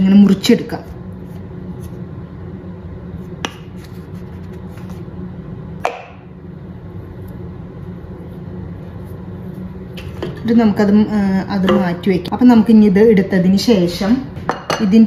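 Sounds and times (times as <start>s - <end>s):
low hum: 0.0s - 13.7s.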